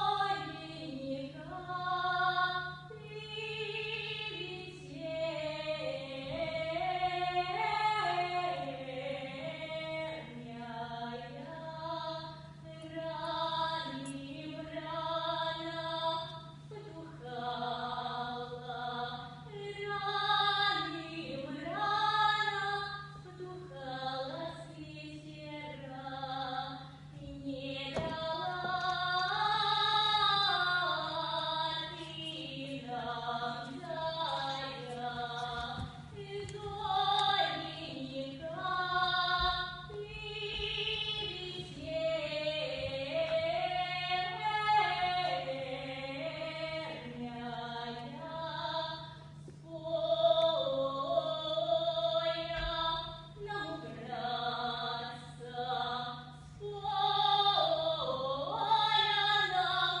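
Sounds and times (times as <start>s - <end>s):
woman singing folk song: 0.0s - 60.0s.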